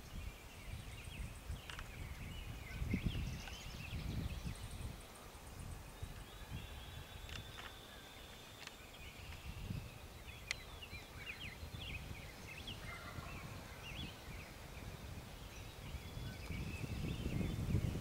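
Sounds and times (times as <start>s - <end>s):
songbirds chirping and whistling: 0.0s - 18.0s.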